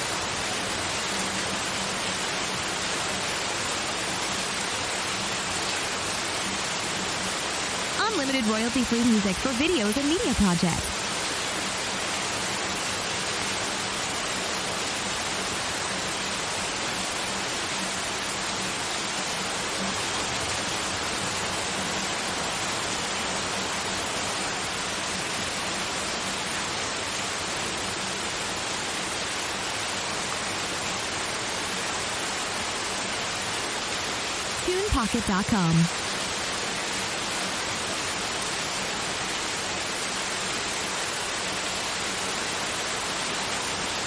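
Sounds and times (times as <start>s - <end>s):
white noise hiss: 0.0s - 44.0s.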